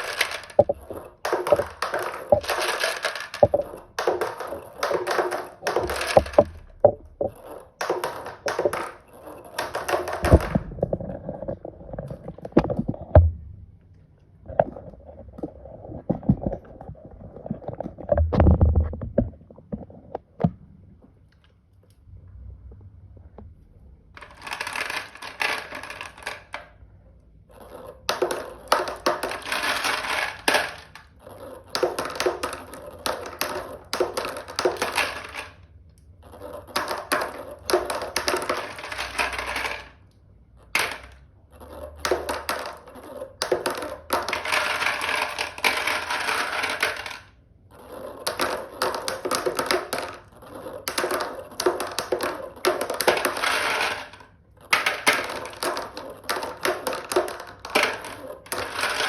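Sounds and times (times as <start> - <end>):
marbles rolling down a marble run: 0.0 - 13.0, 24.2 - 26.9, 27.5 - 59.0.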